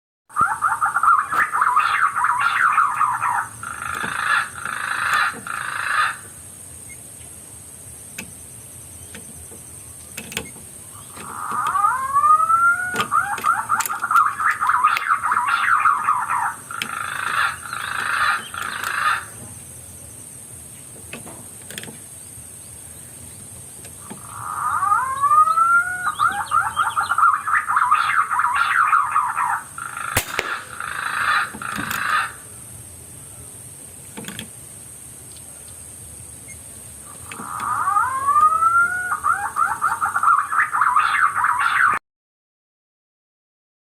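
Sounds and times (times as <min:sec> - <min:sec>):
bird calling and chattering: 0:00.3 - 0:21.2, 0:21.8 - 0:32.6, 0:35.2 - 0:42.0.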